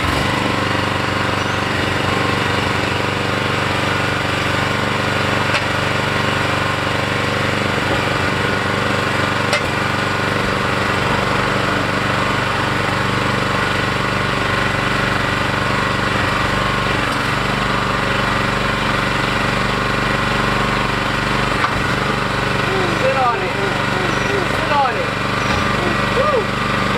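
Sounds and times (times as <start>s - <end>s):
mini excavator engine running: 0.0s - 26.9s.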